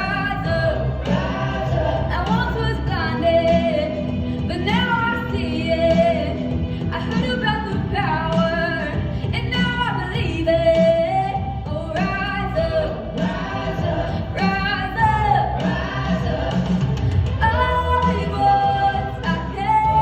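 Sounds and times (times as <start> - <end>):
live band with drums: 0.0 - 20.0
woman singing worship song: 0.0 - 20.0.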